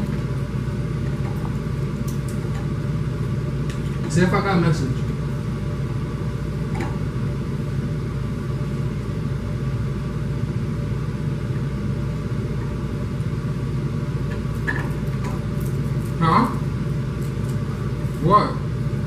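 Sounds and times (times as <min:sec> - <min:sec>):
room hum and rumble: 0:00.0 - 0:19.0.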